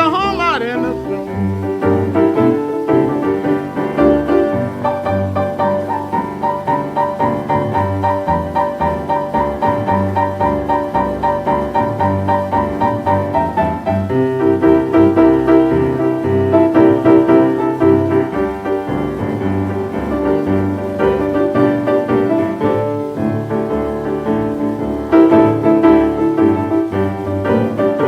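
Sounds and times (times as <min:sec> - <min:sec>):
boogie-woogie piano: 0:00.0 - 0:28.0.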